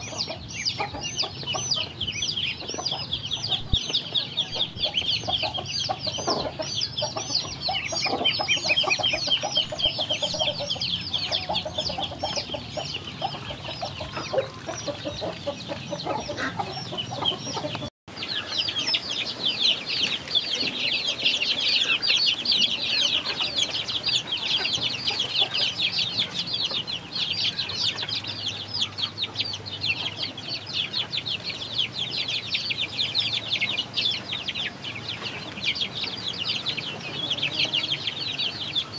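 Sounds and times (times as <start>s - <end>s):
ducklings peeping: 0.0s - 38.9s
young chickens peeping: 0.0s - 38.9s.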